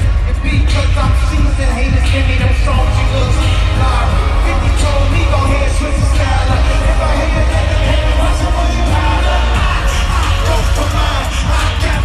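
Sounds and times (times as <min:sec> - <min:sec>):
booming bass: 0:00.0 - 0:12.0
live concert music: 0:00.0 - 0:12.0
vocals: 0:00.0 - 0:12.0.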